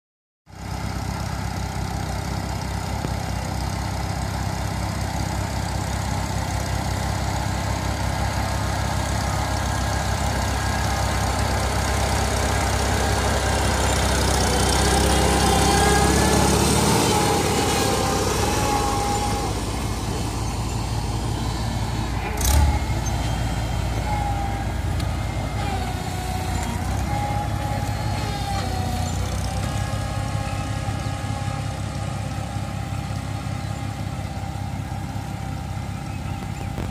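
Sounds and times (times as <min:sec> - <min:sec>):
tractor engine running: 0:00.5 - 0:36.9.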